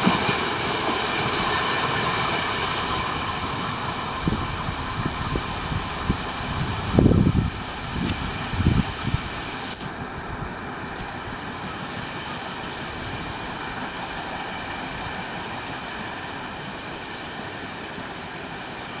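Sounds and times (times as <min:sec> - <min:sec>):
train coaches rolling on rails: 0:00.0 - 0:19.0.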